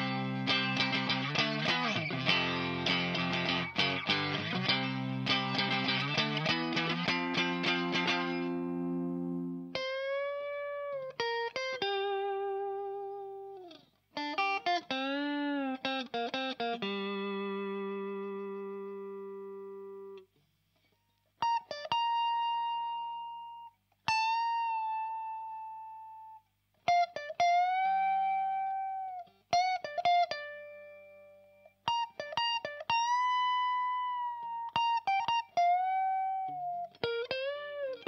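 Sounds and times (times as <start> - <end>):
electric guitar lead line: 0.0 - 20.2, 21.4 - 38.0.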